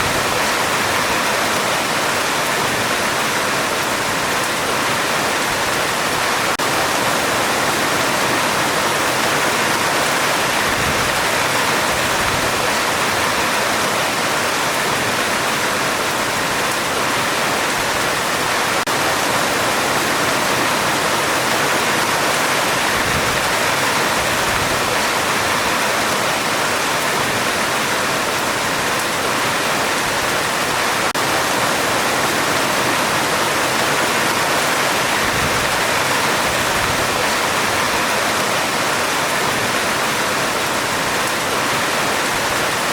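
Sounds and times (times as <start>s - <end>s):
heavy rain on a metal roof: 0.0s - 42.9s.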